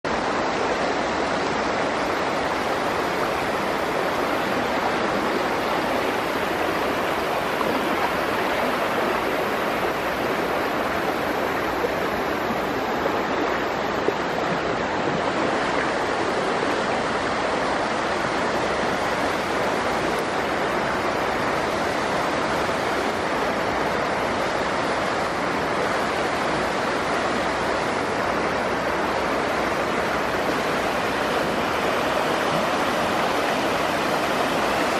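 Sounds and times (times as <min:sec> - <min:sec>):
floodwater rushing over road: 0:00.0 - 0:34.9.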